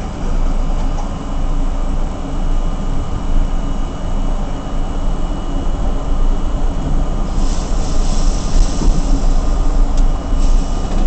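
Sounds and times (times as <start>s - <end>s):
subway car rumble and hum: 0.0s - 11.0s.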